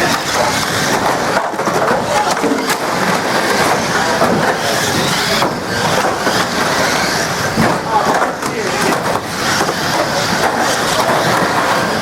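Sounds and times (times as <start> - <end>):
racing car engines and tyres: 0.0 - 12.0.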